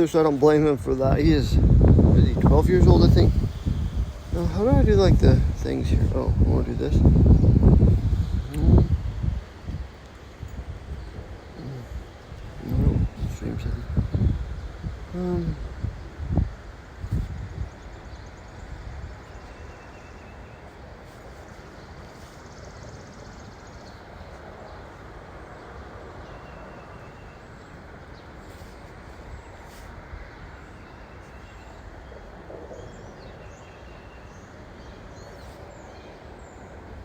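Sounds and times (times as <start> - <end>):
wind blowing across microphone: 0.0 - 37.0.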